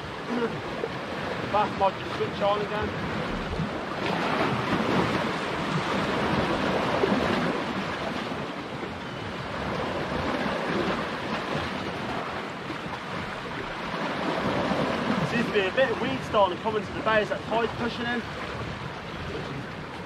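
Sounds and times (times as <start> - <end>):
wind on microphone: 0.0 - 17.0, 17.6 - 20.0
waves washing against rocks: 0.0 - 20.0.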